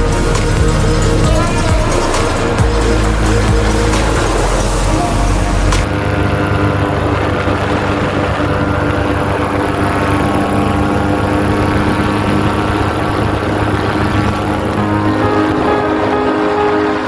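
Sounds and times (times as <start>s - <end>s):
paraglider engine and propeller drone: 1.5s - 17.0s.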